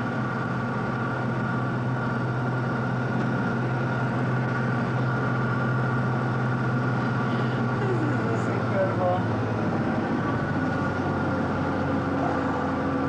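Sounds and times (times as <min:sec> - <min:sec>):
vehicle cabin drone: 0:00.0 - 0:13.0.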